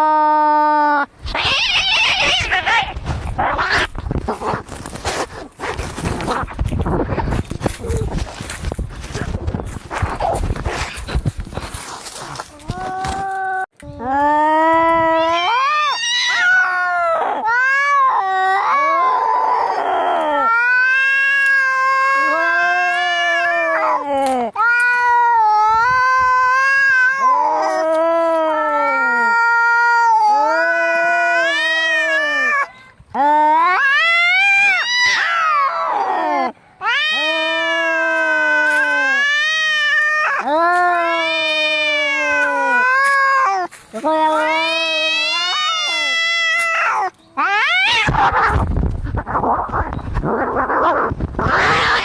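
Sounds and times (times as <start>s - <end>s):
cats yowling in a fight: 0.0s - 4.7s, 12.1s - 52.0s.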